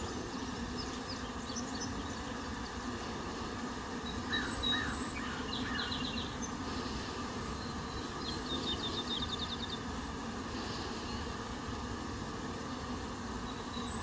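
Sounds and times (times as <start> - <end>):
small birds chirping: 0.0 - 3.0, 3.9 - 11.4, 12.7 - 14.0
honeybees humming: 0.0 - 14.0.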